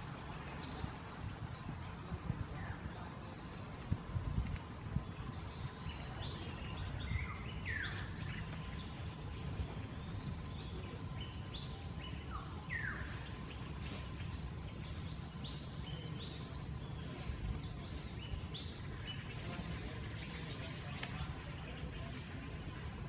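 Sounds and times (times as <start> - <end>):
birds chirping: 0.0 - 23.0
low outdoor rumble: 0.0 - 23.0.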